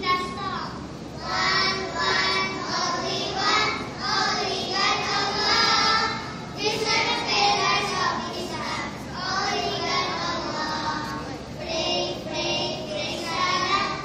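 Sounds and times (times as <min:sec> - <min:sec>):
children singing together: 0:01.2 - 0:14.0.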